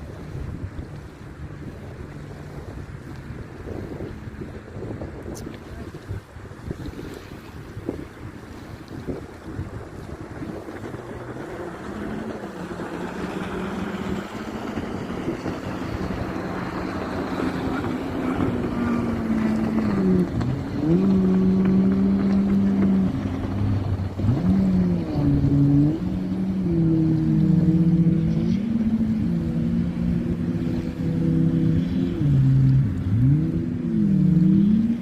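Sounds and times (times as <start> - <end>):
surf: 0.0 - 35.0
wind: 0.0 - 35.0.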